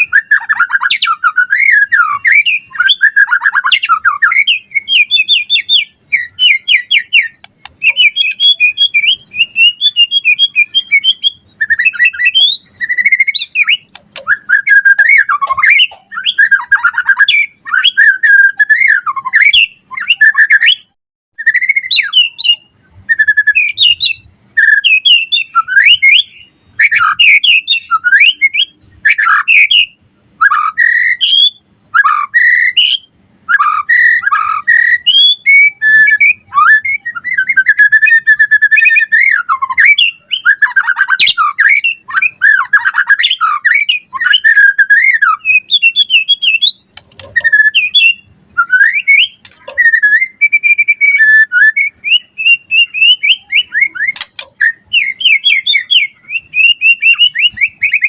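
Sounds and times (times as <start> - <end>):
bird singing whistled song: 0.0 - 58.0.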